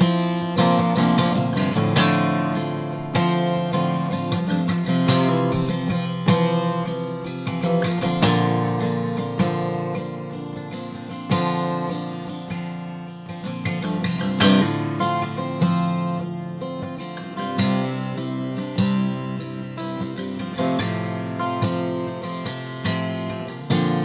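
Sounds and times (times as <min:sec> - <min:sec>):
solo acoustic guitar: 0:00.0 - 0:24.0.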